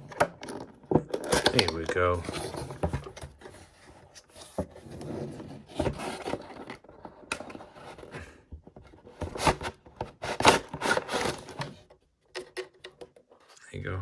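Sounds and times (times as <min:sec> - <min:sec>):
cardboard and plastic scraping: 0:00.0 - 0:13.6.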